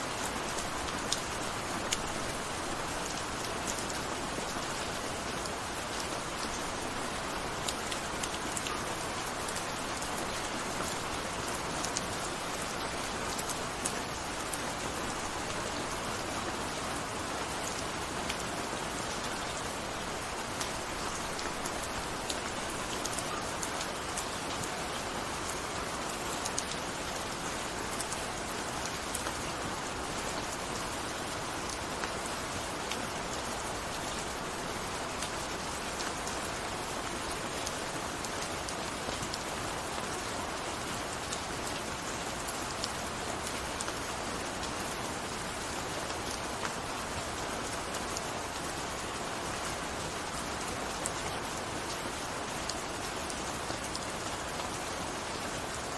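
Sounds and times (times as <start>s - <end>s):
gentle rain pattering: 0.0s - 55.9s.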